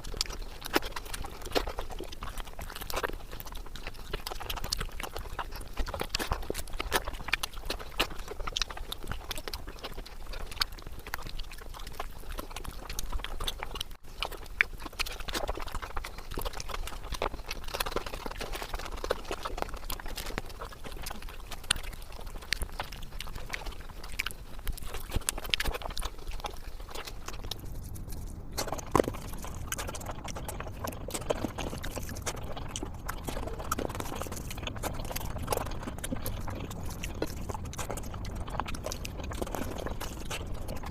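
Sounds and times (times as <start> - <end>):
wet chewing and lip-smacking: 0.0 - 40.9.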